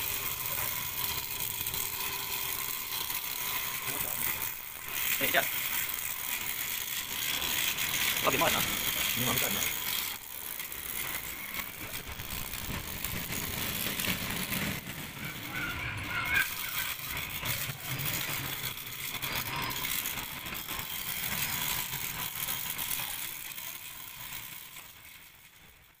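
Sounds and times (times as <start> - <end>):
rattle of fast clicks: 0.0 - 26.0
small electric motor whining: 0.0 - 26.0.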